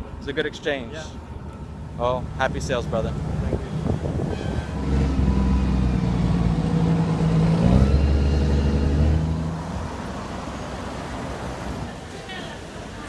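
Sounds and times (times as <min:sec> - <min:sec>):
engine running: 0:01.2 - 0:11.9.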